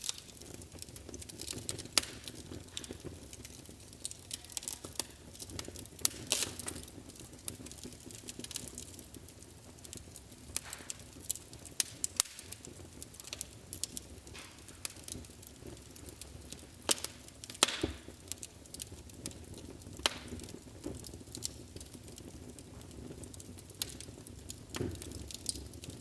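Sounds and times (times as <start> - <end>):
low rush of flames: 0.0 - 26.0
wood fire crackling and popping: 0.0 - 26.0.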